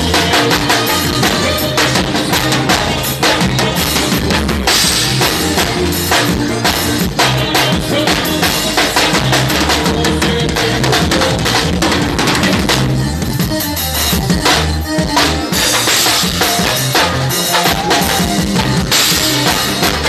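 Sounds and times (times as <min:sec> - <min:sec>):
bass line: 0:00.0 - 0:20.0
drum kit beat: 0:00.0 - 0:20.0
live band music: 0:00.0 - 0:20.0.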